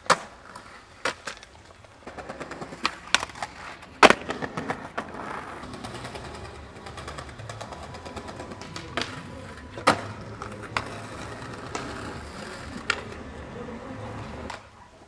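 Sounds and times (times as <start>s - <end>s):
skateboard clacks: 0.0s - 15.0s
skateboard wheels rolling on pavement: 0.0s - 15.0s.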